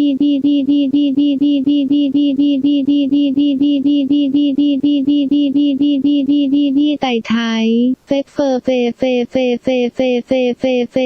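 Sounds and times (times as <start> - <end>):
synthetic voice repeating syllable: 0.0 - 11.0.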